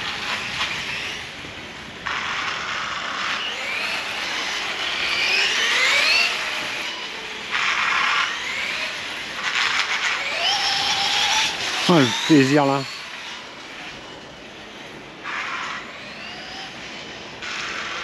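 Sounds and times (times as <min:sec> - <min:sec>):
electric motor whining: 0:00.0 - 0:14.5.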